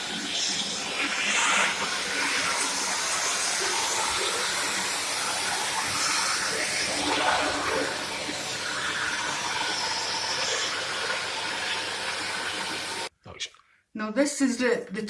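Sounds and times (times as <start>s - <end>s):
vacuum cleaner running: 0.0s - 13.1s.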